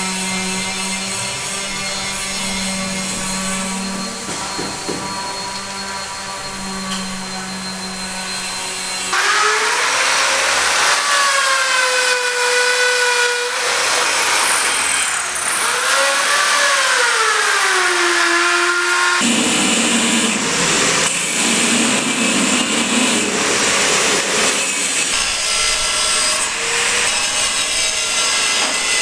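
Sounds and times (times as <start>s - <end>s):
power tool under varying load: 0.0s - 29.0s
power tool motor hum: 3.0s - 29.0s.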